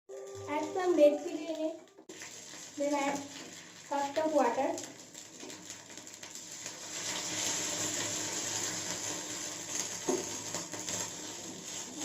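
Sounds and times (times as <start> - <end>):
hot oil sizzling: 0.1 - 12.0.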